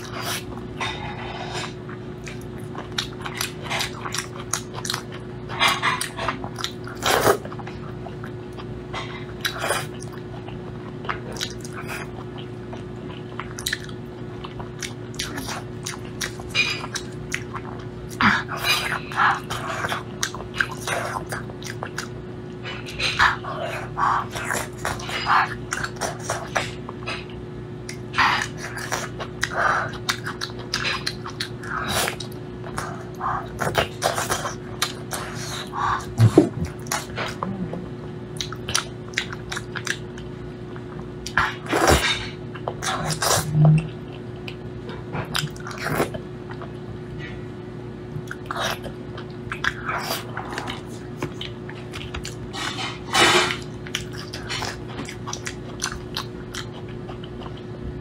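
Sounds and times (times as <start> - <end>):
wet chewing and slurping: 0.0 - 37.4, 38.4 - 47.4, 48.2 - 57.9
faint steady hum: 0.0 - 58.0.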